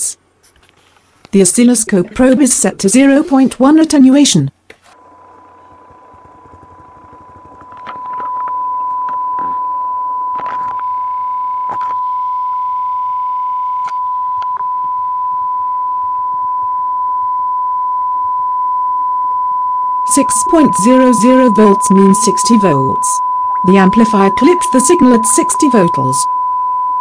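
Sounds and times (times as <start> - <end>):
sine test tone from speaker: 5.0 - 27.0.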